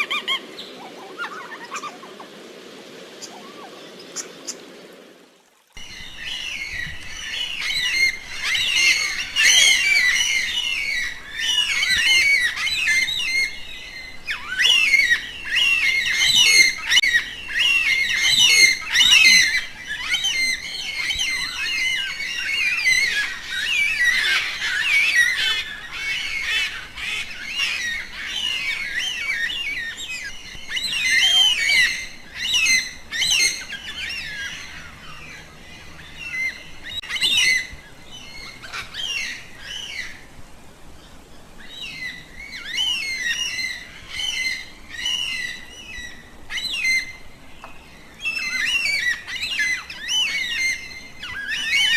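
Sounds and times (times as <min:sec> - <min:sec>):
chorus of birds calling: 0:00.0 - 0:02.4, 0:05.8 - 0:51.9.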